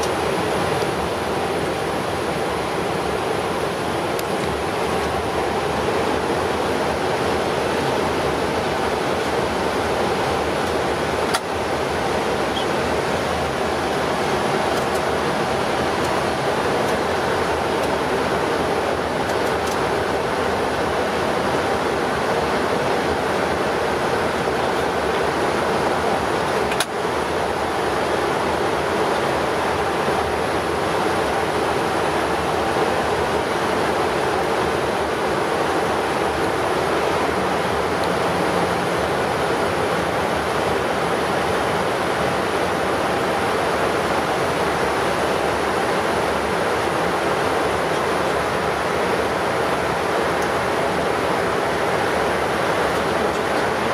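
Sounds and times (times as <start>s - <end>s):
cockpit airflow and engine rush: 0.0s - 53.9s.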